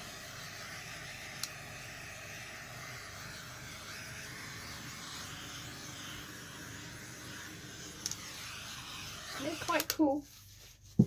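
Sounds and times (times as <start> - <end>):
butane torch hissing: 0.0 - 10.2
torch click: 0.6 - 10.0.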